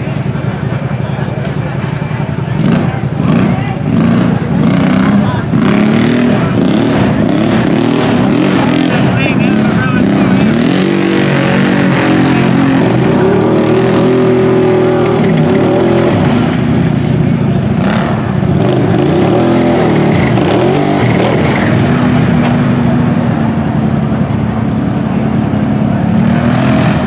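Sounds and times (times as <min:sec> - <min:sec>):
atv engine revving: 0:00.0 - 0:27.0
tyres churning through mud: 0:00.0 - 0:27.0.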